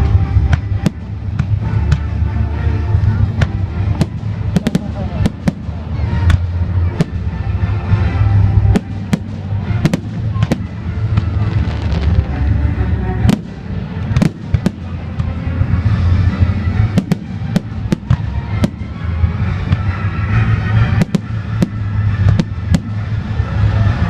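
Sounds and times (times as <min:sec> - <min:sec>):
music soundtrack: 0:00.0 - 0:24.0
steady low rumble: 0:00.0 - 0:24.0.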